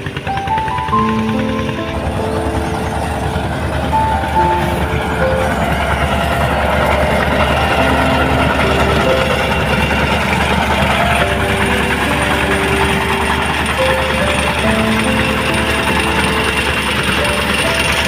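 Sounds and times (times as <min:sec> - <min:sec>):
faint melody notes: 0:00.0 - 0:18.0
thresher engine drone: 0:00.0 - 0:18.0.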